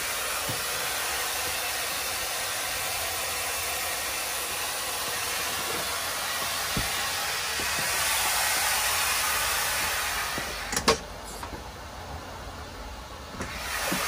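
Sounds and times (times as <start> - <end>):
compressed air hissing: 0.0 - 11.7, 13.3 - 14.0.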